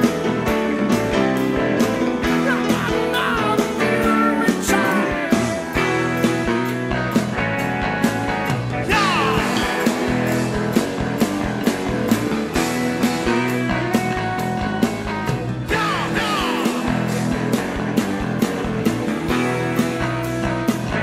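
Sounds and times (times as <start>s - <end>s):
drums keeping steady beat: 0.0s - 21.0s
electric guitar gliding down: 0.0s - 21.0s
live rock band playing: 0.0s - 21.0s.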